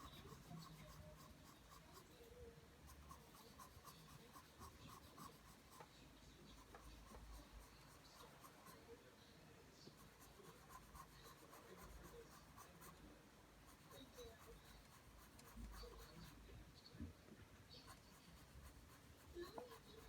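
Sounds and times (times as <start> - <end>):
pencil scratching on paper: 0.0 - 9.0, 9.8 - 16.6, 17.7 - 20.0.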